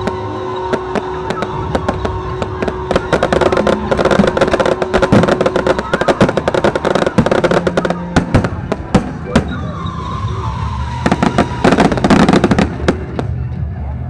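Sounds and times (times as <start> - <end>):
fireworks crackling and popping: 0.0 - 13.5.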